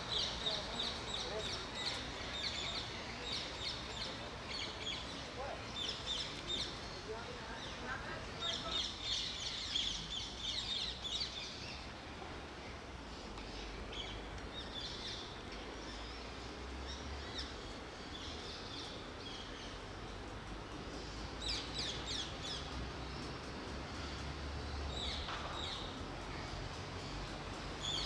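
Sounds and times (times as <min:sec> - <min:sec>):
outdoor background noise: 0:00.0 - 0:28.0
small birds chirping: 0:00.0 - 0:28.0.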